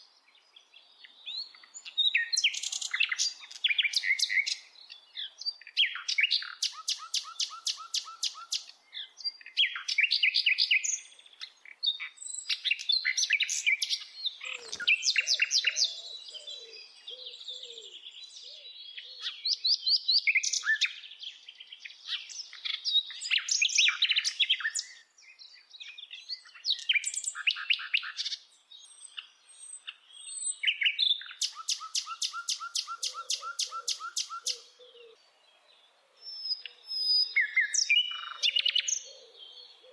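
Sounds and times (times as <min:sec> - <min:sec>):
birds singing with trills: 0:00.0 - 0:39.9.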